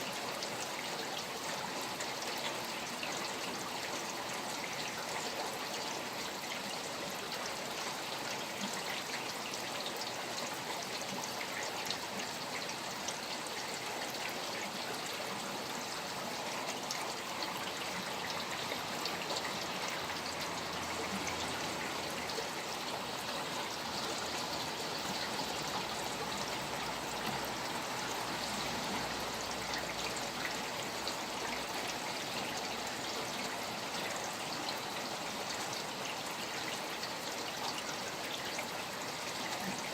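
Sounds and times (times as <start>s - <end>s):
flowing water: 0.0s - 39.9s
rain falling: 0.0s - 39.9s.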